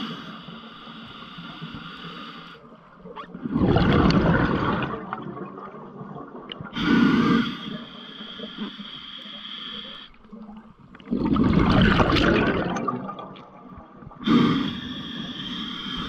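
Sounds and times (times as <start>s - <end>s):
underwater bubbling water: 0.0s - 16.0s.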